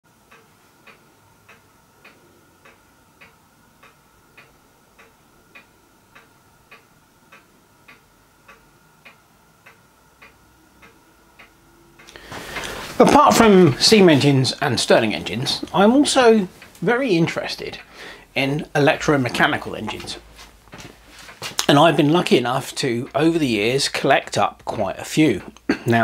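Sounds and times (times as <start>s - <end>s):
faint steady hum: 0.1s - 26.0s
faint even ticking: 0.2s - 26.0s.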